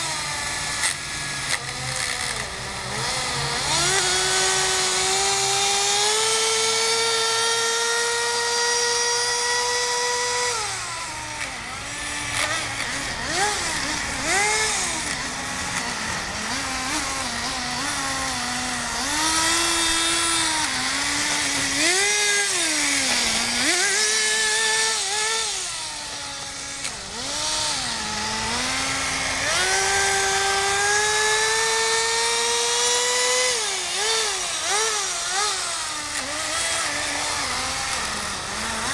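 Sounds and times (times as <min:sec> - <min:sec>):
model engine revving: 0:00.0 - 0:38.9.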